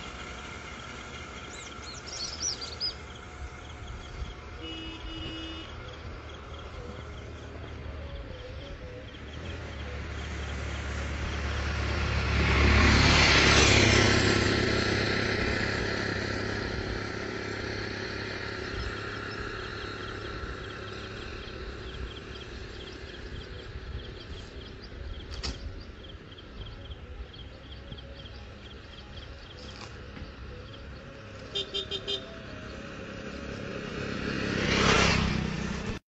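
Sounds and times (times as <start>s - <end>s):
road vehicle passing: 0.0s - 36.0s.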